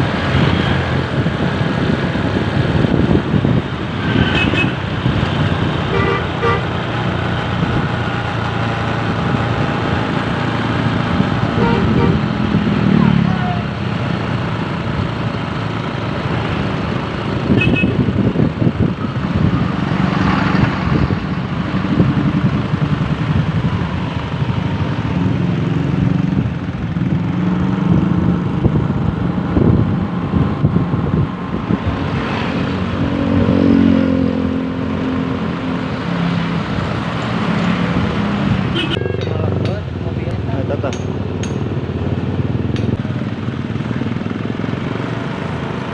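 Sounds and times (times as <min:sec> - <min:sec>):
road noise: 0:00.0 - 0:45.9
vehicle engines running: 0:00.0 - 0:45.9.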